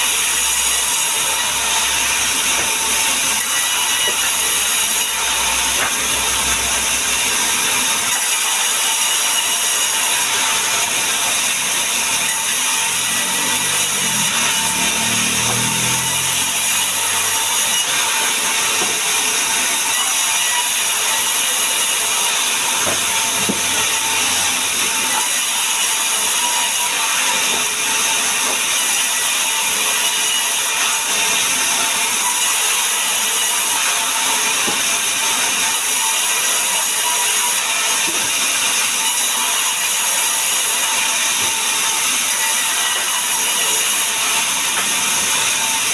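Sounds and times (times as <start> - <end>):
power tool cutting wood: 0.0 - 45.9.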